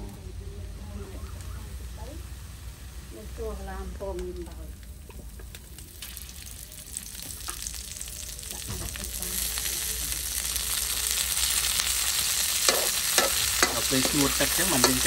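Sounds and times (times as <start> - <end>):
oil sizzling and crackling in a wok: 0.0 - 15.0.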